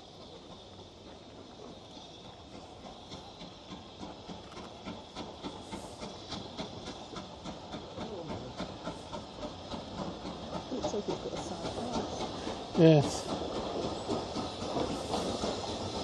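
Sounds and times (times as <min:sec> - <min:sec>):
train wheels clicking over rail joints: 0:00.0 - 0:16.0.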